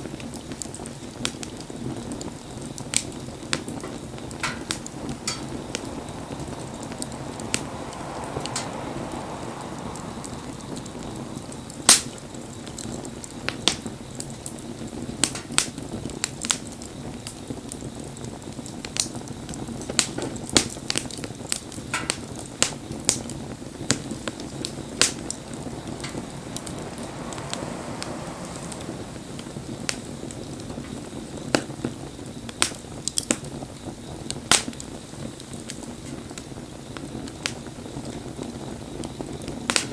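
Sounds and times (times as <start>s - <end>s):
bonfire flames rushing: 0.0s - 39.9s
burning wood crackling and popping: 0.0s - 39.9s.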